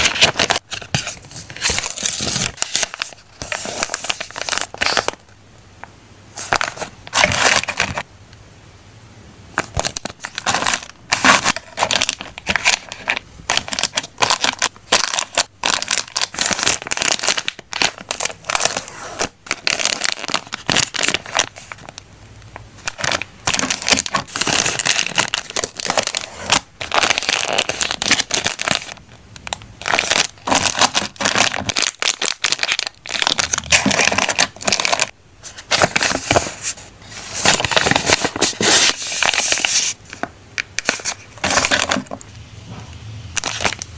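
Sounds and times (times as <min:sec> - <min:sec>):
packaging crinkling: 0:00.0 - 0:05.2, 0:06.4 - 0:08.0, 0:09.6 - 0:22.0, 0:22.8 - 0:42.3, 0:43.4 - 0:43.9.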